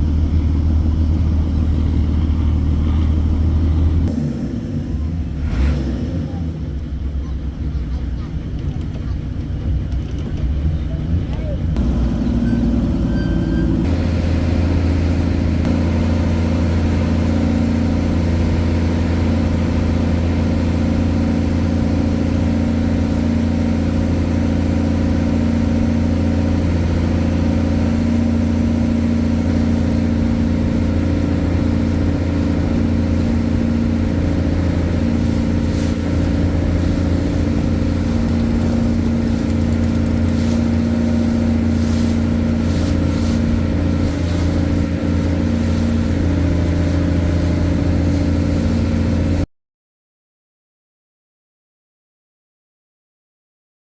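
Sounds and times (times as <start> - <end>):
motorboat engine droning: 0.0 - 49.4.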